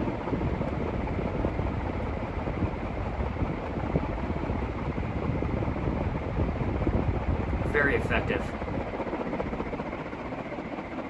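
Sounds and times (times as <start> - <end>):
ceiling fan air rushing: 0.0 - 11.0.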